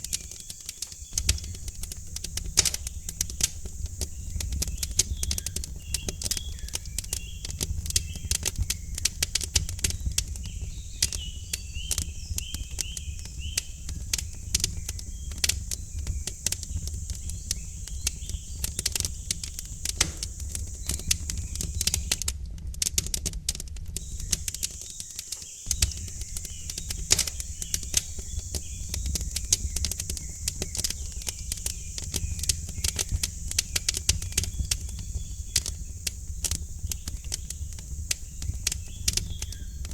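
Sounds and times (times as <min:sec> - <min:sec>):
birds chirping faintly: 0:00.0 - 0:22.3, 0:24.0 - 0:39.9
wood fire crackling and popping: 0:00.0 - 0:39.9.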